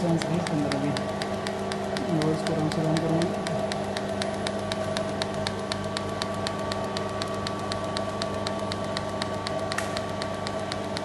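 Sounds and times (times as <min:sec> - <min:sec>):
robotic welder humming and ticking: 0:00.0 - 0:11.0.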